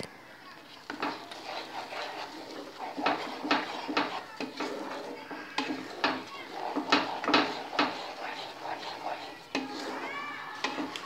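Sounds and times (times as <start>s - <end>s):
wooden spatula scraping pan: 0.7s - 11.0s.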